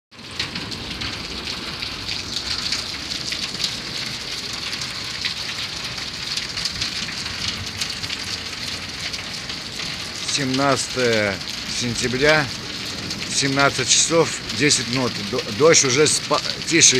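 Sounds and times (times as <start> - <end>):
rain falling: 0.1 - 16.9.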